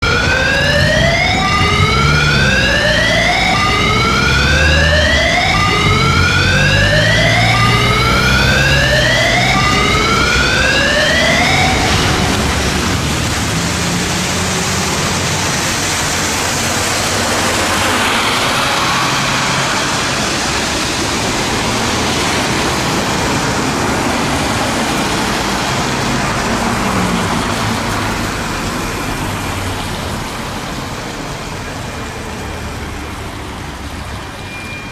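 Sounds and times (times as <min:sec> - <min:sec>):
emergency vehicle siren: 0:00.0 - 0:34.9
traffic and road noise: 0:00.0 - 0:34.9
vehicle engine rumble: 0:00.0 - 0:34.9.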